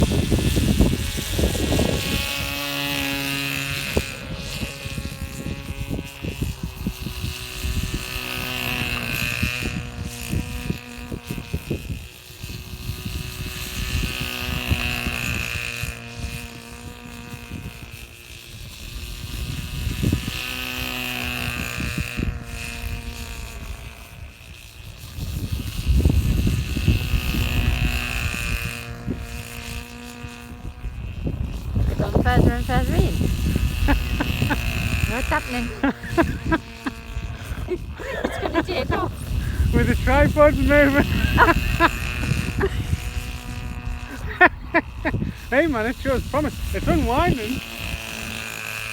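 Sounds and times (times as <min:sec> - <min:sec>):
lawnmower engine running: 0:00.0 - 0:48.9.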